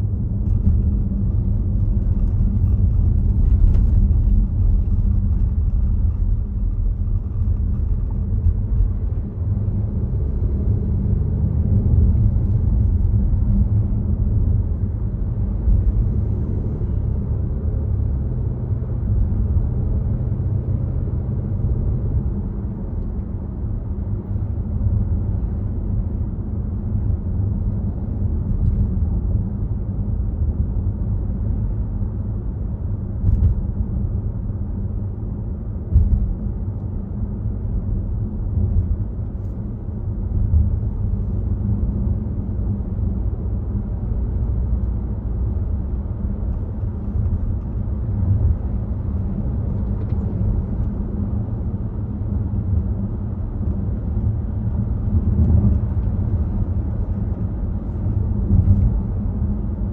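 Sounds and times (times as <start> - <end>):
tyre and road noise: 0.0 - 26.4, 34.8 - 59.9
car engine: 0.0 - 59.9.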